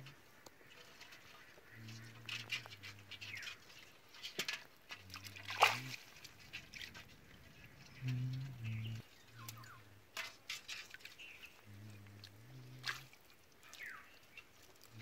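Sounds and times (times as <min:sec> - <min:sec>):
wet net rustling and crackling: 0:00.0 - 0:15.0.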